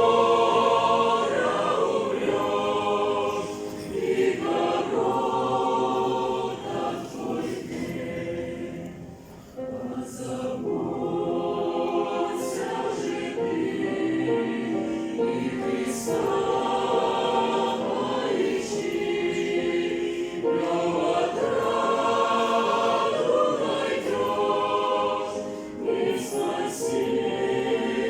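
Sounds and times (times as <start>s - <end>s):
choir singing a slow hymn: 0.0s - 28.0s.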